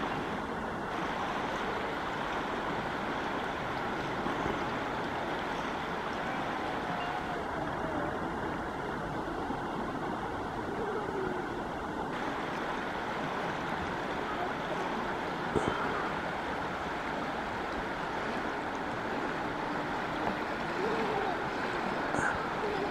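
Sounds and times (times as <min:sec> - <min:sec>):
river rushing over rocks: 0:00.0 - 0:22.9.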